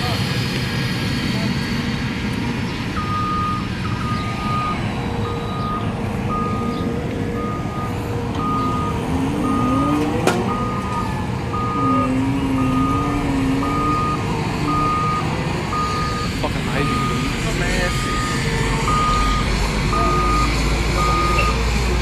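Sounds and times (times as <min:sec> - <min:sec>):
diesel engine revving: 0:00.0 - 0:22.0
back-up alarm beeping: 0:02.9 - 0:21.6.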